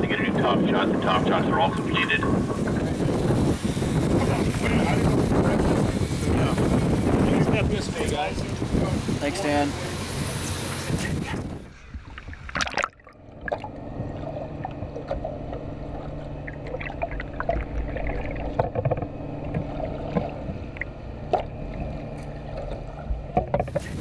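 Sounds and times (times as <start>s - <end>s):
boat engines humming: 0.0s - 24.0s.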